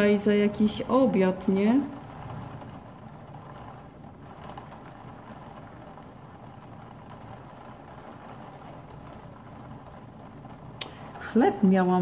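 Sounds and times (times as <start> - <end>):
heavy rain through a window: 0.0 - 12.0.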